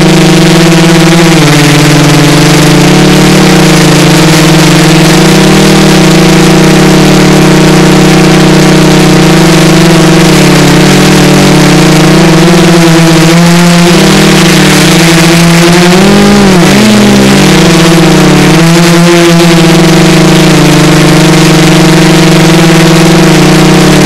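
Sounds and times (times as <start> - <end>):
drone motors humming: 0.0 - 24.0.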